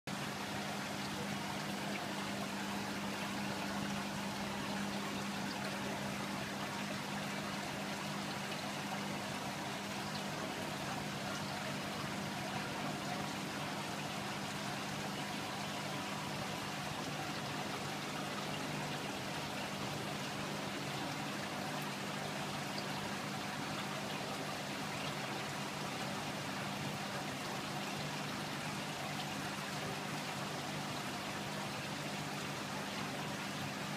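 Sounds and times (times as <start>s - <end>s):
pump hum: 0.1s - 33.9s.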